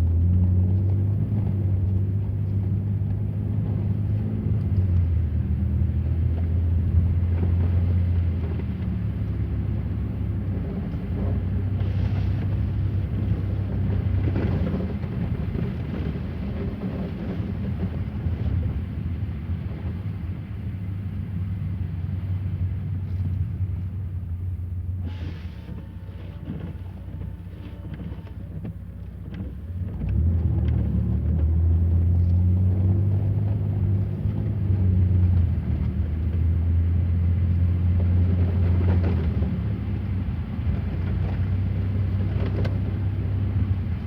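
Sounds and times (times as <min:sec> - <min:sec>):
car engine hum: 0:00.0 - 0:44.0
road noise: 0:00.0 - 0:44.0.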